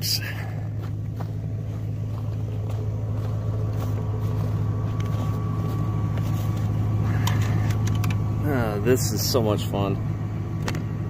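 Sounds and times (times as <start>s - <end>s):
air compressor humming: 0.0s - 11.0s.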